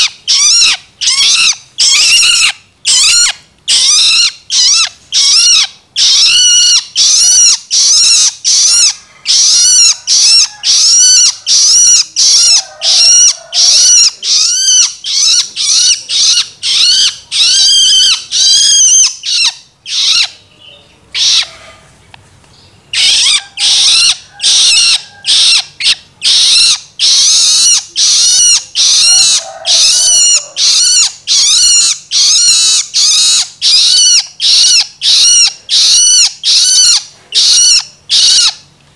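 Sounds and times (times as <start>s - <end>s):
bird harsh begging calls: 0.0s - 21.9s, 22.6s - 38.7s.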